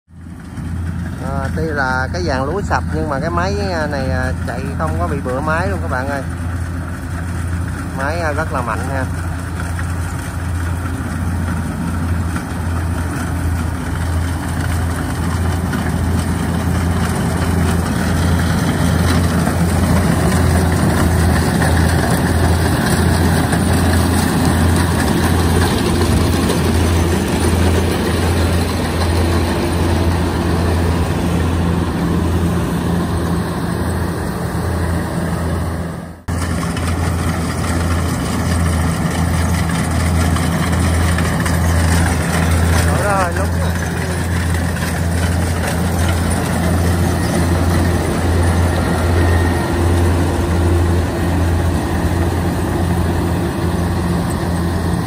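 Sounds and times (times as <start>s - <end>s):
combine harvester diesel engine drone: 0.1s - 55.0s.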